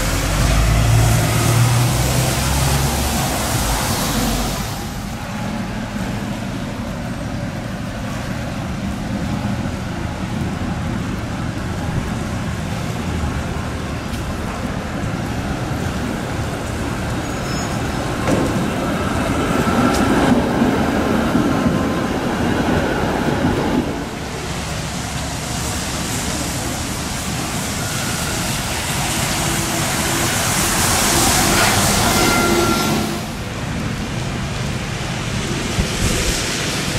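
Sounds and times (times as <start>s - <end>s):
tram passing on rails: 0.0s - 36.9s
wet road traffic hiss: 0.0s - 36.9s.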